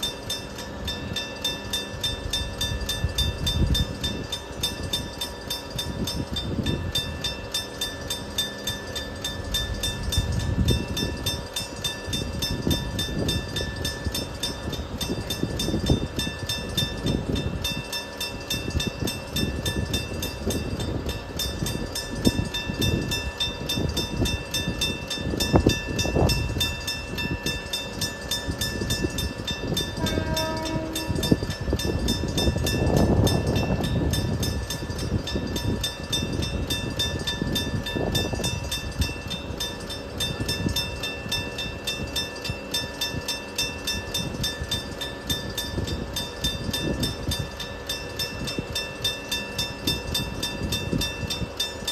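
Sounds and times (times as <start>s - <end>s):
train rumbling and clattering: 0.0s - 51.9s.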